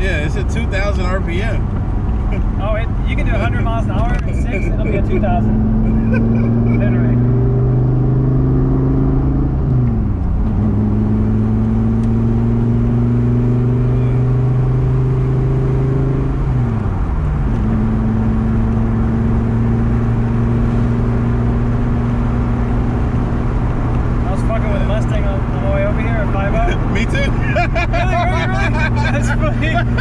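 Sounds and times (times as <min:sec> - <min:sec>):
car engine running at low revs: 0:00.0 - 0:30.0.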